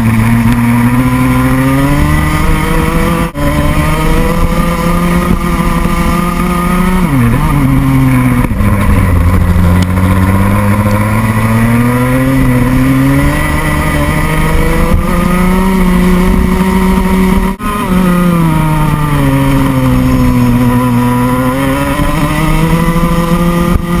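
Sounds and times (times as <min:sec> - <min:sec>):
kart engine at racing speed: 0:00.0 - 0:24.0.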